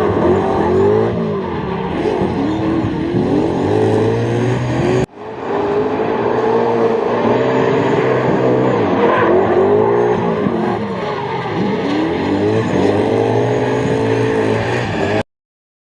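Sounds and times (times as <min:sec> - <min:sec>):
tyre squeal: 0:00.0 - 0:15.2
car engine revving: 0:00.0 - 0:15.3.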